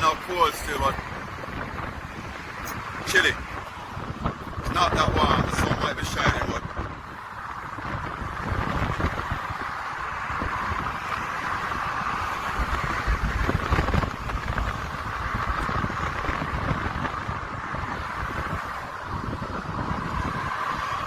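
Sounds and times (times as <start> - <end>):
road traffic hiss: 0.0 - 21.0
wind buffeting microphone: 0.0 - 21.0.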